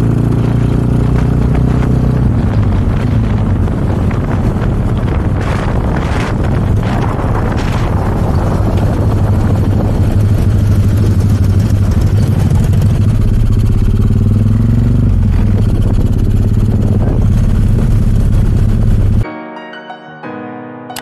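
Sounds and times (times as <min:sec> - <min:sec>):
motorcycle engine drone: 0:00.0 - 0:19.2.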